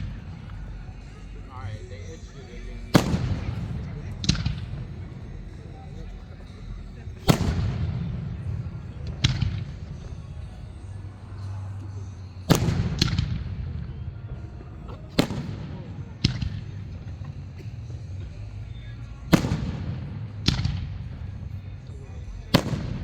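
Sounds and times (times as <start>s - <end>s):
fireworks booming with echo: 0.0s - 23.0s.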